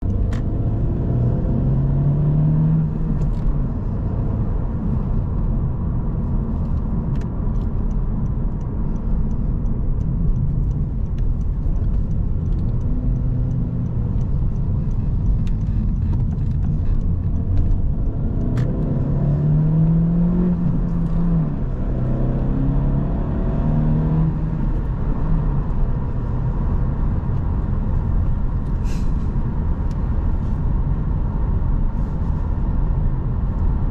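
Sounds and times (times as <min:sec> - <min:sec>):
car engine accelerating: 0:00.0 - 0:33.9
road rumble: 0:00.0 - 0:33.9.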